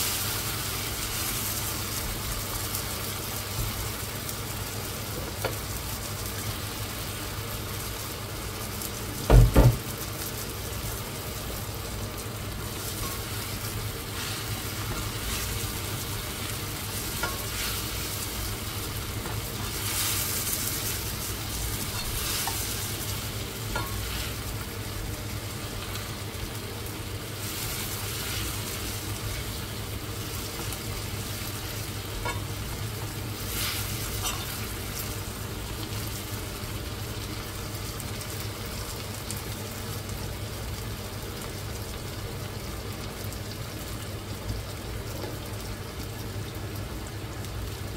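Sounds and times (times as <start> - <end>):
food sizzling in a frying pan: 0.0 - 47.9.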